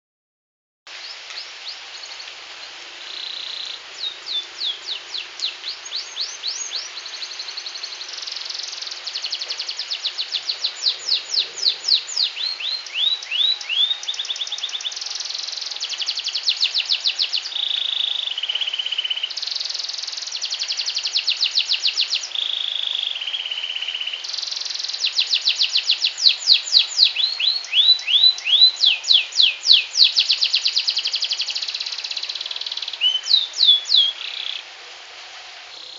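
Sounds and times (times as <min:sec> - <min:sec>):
canary singing: 0:03.0 - 0:34.6.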